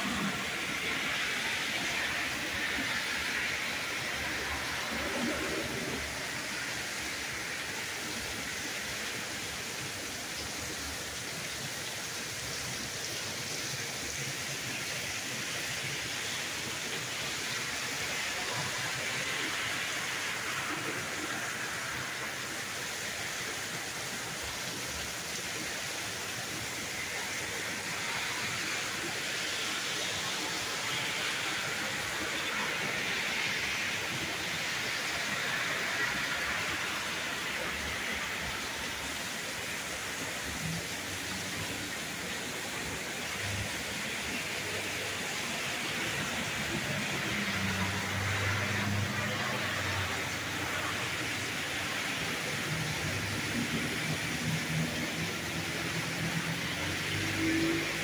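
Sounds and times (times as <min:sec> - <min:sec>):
torrential rain pouring: 0:00.0 - 0:58.0.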